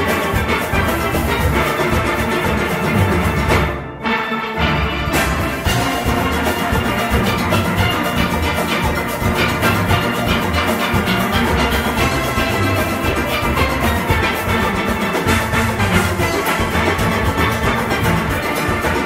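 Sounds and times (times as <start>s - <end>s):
steel orchestra playing: 0.0s - 19.0s.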